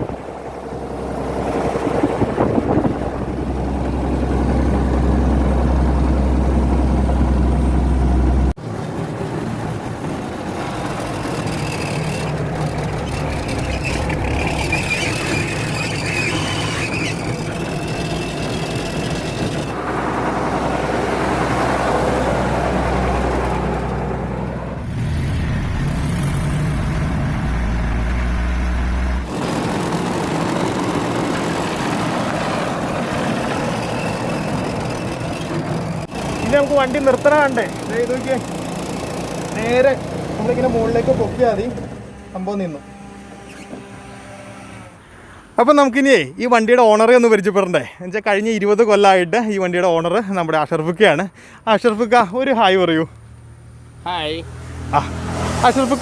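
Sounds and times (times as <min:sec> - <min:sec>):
diesel truck engine droning: 0:00.0 - 0:47.3, 0:49.0 - 0:56.0.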